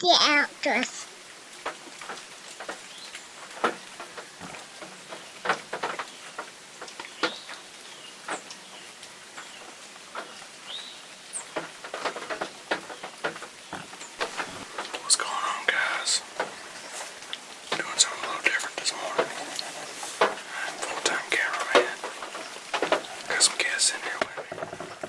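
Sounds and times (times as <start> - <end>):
raindrops pattering: 0.0 - 25.0
steady rain hiss: 0.0 - 25.0.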